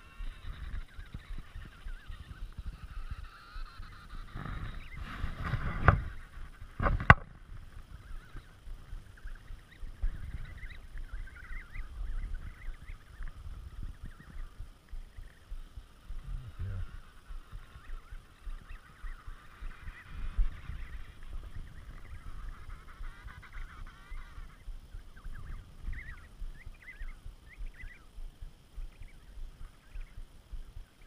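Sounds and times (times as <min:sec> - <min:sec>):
penguins calling: 0:00.0 - 0:06.9, 0:08.0 - 0:28.1
wind rumble on microphone: 0:00.0 - 0:31.0.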